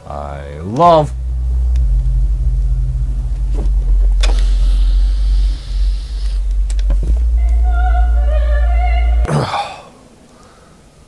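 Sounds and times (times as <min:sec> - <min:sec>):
deep rumbling music: 0:00.2 - 0:09.4
held chord of steady tones: 0:00.3 - 0:10.2
rush of noise: 0:00.9 - 0:09.9.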